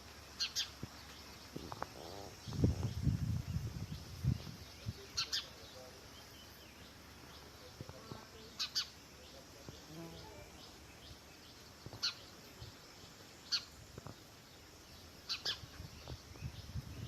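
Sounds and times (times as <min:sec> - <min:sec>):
sparrows chirping: 0:00.1 - 0:17.0.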